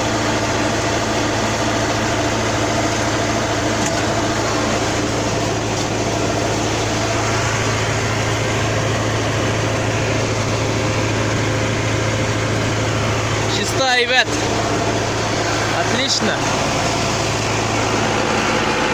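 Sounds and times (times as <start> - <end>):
combine harvester running: 0.0 - 18.9.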